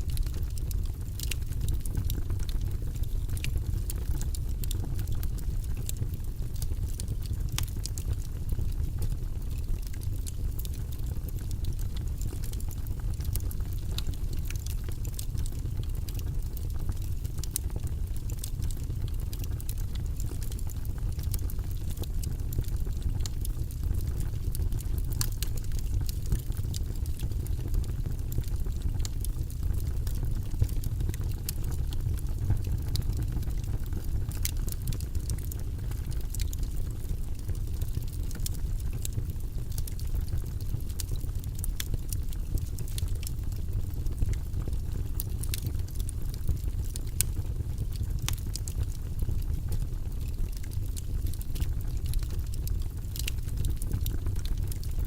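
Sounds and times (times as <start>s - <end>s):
fire crackles and pops: 0.0s - 55.0s
low rumble of flames: 0.0s - 55.0s.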